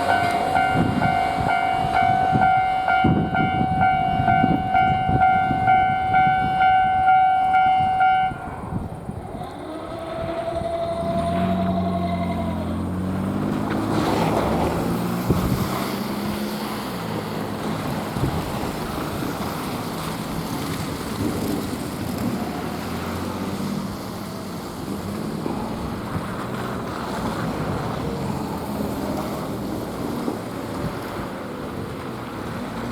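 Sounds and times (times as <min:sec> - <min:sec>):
wind on microphone: 0:00.0 - 0:12.7, 0:13.9 - 0:16.5, 0:17.7 - 0:32.8
diesel railcar engines droning: 0:00.0 - 0:32.9.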